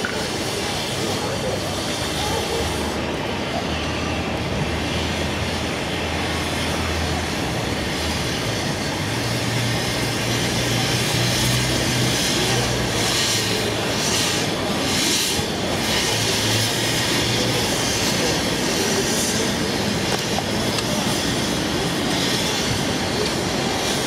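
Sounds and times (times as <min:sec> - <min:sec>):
large engine running: 0:00.0 - 0:24.0
outdoor noise: 0:00.0 - 0:24.0.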